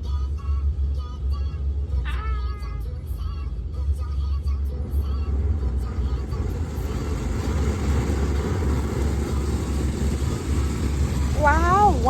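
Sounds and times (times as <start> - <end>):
car wash low rumble: 0.0 - 12.0.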